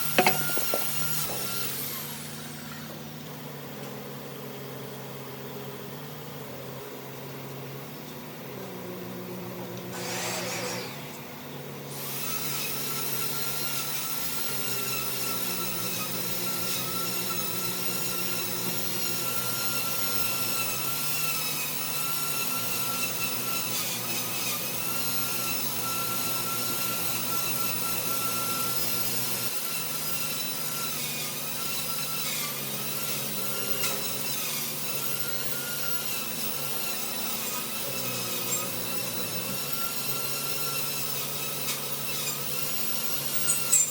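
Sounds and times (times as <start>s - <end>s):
power tool sanding wood: 0.0s - 6.1s, 6.9s - 43.9s.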